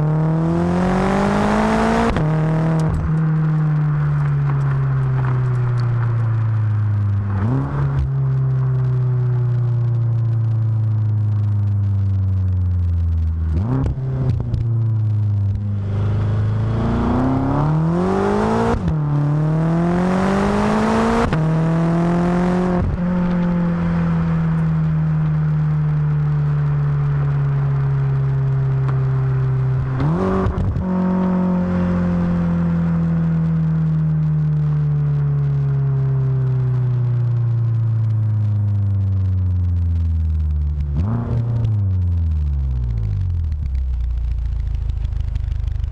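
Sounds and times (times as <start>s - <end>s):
car engine accelerating with upshifts: 0.0s - 45.9s.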